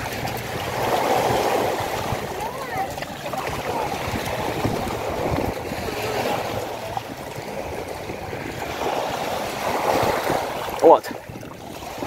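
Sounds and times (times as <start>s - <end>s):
shallow water swishing and gurgling: 0.0s - 12.0s
small waves washing in: 0.0s - 12.0s.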